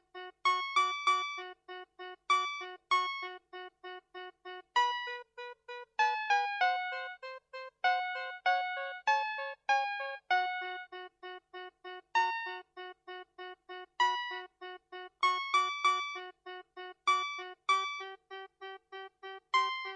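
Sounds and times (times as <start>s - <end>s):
electronic toy melody: 0.0s - 19.9s.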